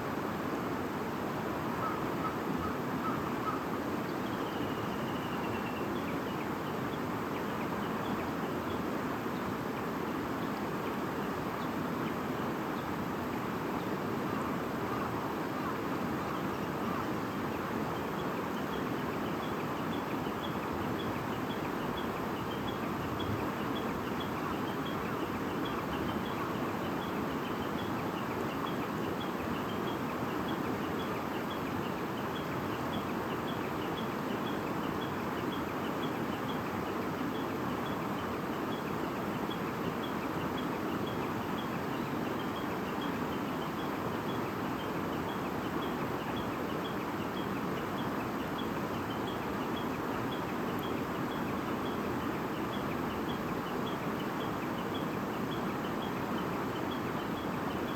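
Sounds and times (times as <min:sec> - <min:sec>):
babbling stream: 0:00.0 - 0:57.9.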